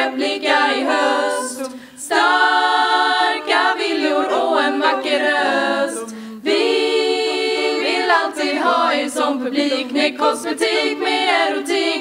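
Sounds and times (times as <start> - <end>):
women singing in close harmony: 0.0 - 12.0.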